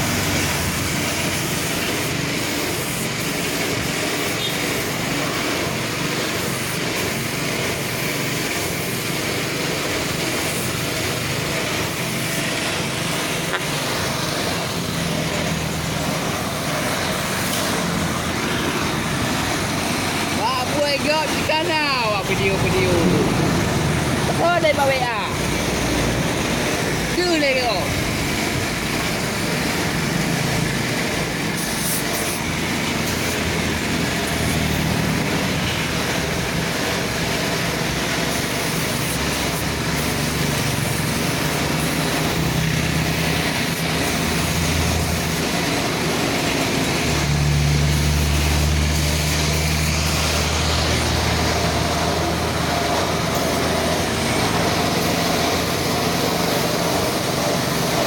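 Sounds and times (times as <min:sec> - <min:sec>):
engine running with a hiss: 0:00.0 - 0:58.0.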